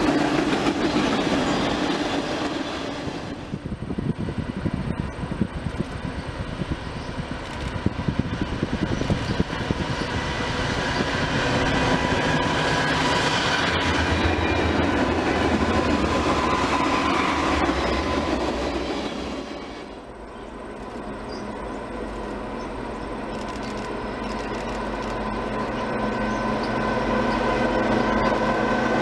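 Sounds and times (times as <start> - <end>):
train wheels clacking over rails: 0.0 - 20.1, 20.8 - 29.0
locomotive engines growling: 0.0 - 29.0.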